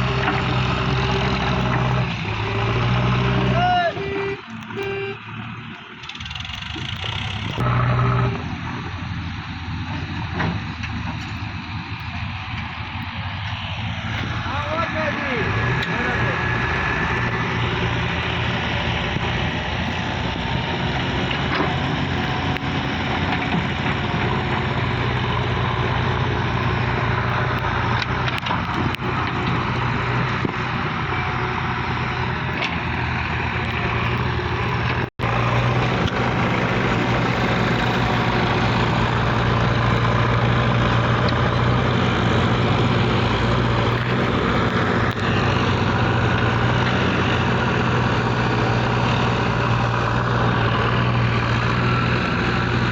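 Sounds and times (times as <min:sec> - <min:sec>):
diesel engine humming: 0:00.0 - 0:52.9.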